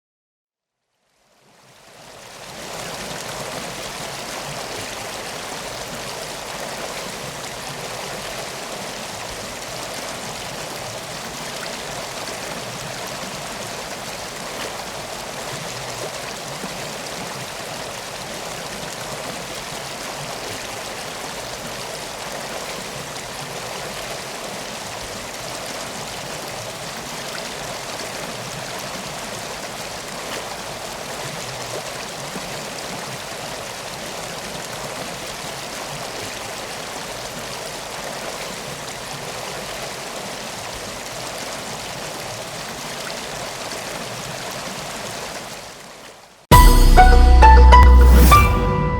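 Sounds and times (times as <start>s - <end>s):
river water rushing: 2.1s - 45.9s.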